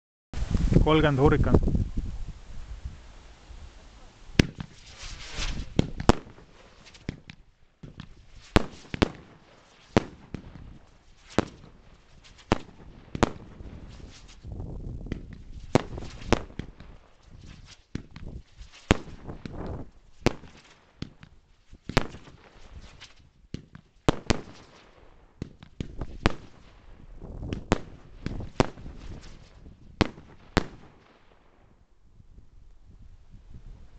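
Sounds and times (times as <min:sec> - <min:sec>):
hissing crackle: 0:00.4 - 0:24.9, 0:25.9 - 0:31.1
fireworks bangs: 0:04.0 - 0:31.6.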